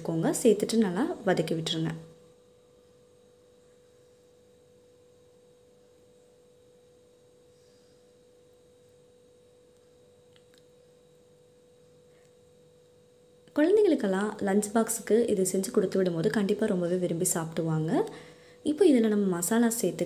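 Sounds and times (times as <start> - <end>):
faint steady pure tone: 0.0 - 20.0.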